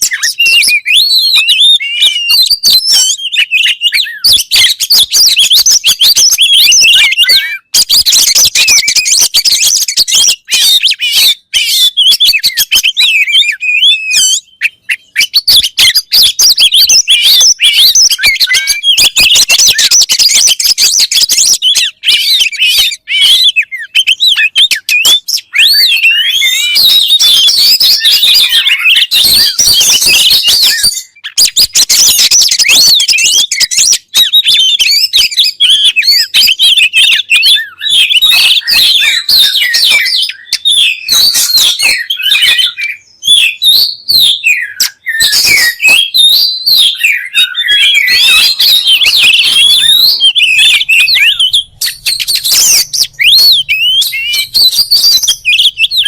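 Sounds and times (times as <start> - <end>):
magpie-robin singing: 0.0 - 56.0.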